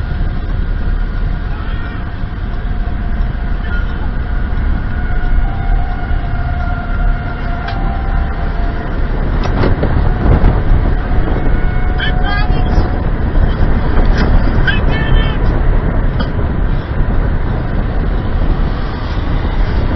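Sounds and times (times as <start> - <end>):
tornado roaring: 0.0 - 19.9.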